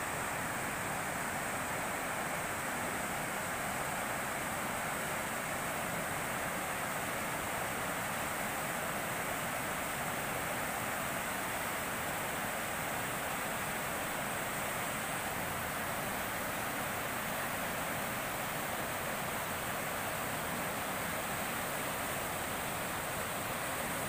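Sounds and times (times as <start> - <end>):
river water rushing over weir: 0.0 - 24.0.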